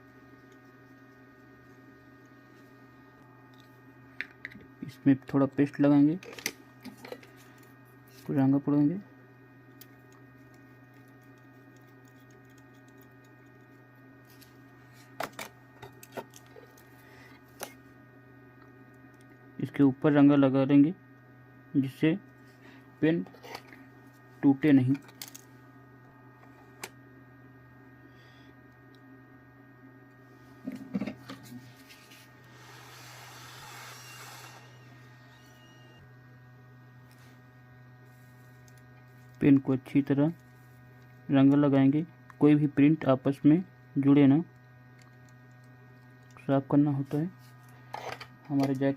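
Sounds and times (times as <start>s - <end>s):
faint electrical hum: 0.0s - 48.9s.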